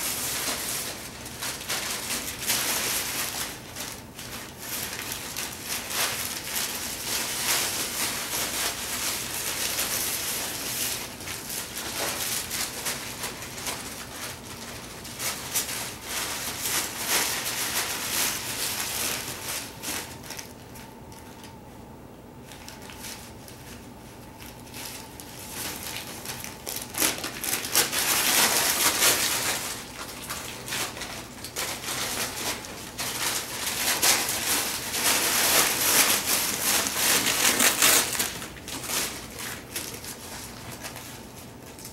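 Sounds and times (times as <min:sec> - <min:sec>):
paper crinkling and rustling: 0:00.0 - 0:21.5, 0:22.4 - 0:41.9.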